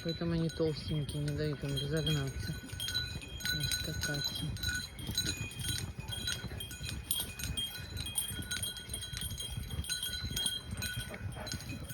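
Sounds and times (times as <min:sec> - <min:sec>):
small bells clinking: 0:00.0 - 0:11.9.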